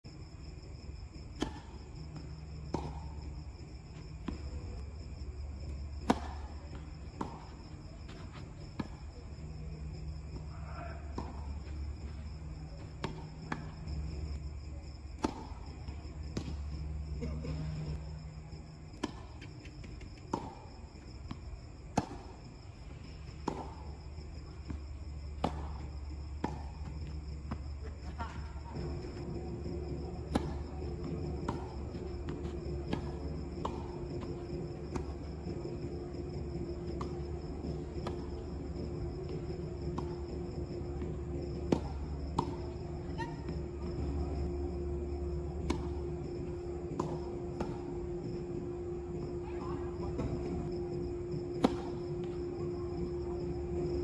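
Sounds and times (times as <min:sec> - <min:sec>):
steady low hum: 0:00.0 - 0:54.0
tennis balls bouncing on court: 0:00.2 - 0:54.0
tennis balls hit by racquets: 0:00.2 - 0:54.0.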